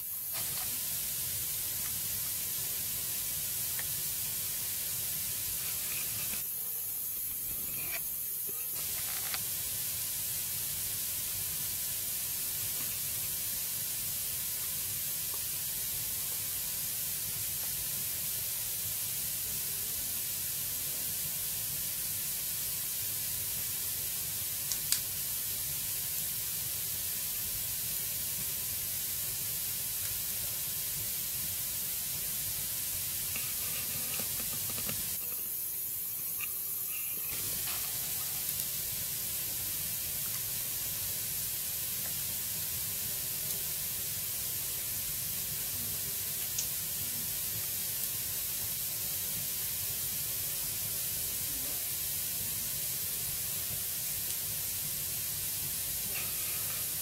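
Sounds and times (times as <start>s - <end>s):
fire crackle: 0.0s - 18.9s, 21.8s - 51.2s
wood fire hissing: 0.0s - 57.0s.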